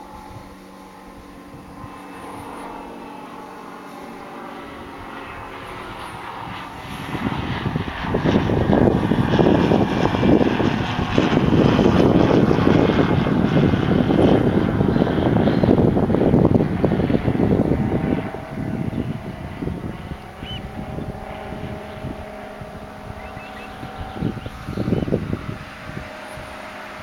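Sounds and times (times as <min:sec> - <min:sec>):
engine drone: 0:00.0 - 0:27.0
loud rough rushing noise: 0:00.0 - 0:27.0.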